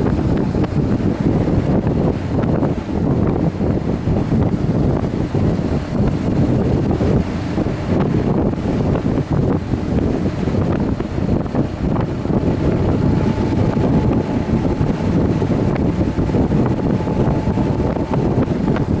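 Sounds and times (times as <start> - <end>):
motorcycle running: 0.0 - 19.0
wind buffeting microphone: 0.0 - 19.0.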